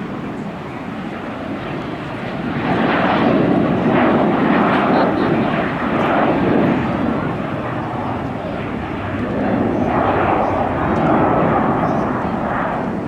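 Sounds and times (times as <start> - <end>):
jet engines passing: 0.0 - 13.0.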